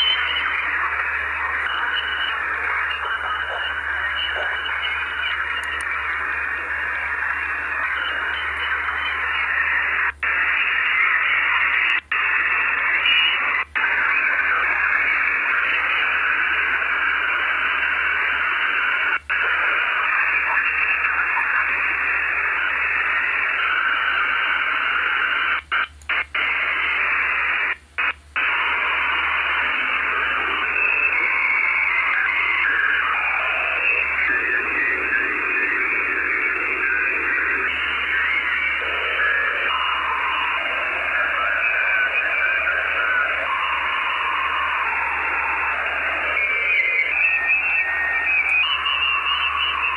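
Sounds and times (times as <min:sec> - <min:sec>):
radio static hiss: 0:00.0 - 0:49.9.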